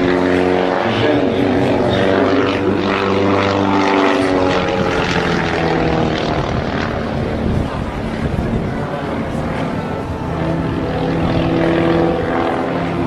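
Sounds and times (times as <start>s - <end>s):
propeller airplane flying past: 0.0s - 13.0s.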